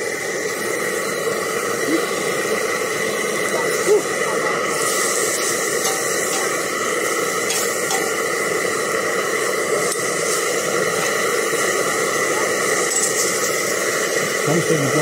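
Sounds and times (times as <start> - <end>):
vegetables sizzling in pan: 0.0 - 15.0.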